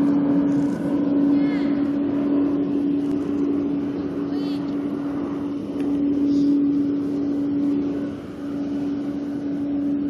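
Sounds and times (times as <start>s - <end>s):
engines humming: 0.0s - 10.0s.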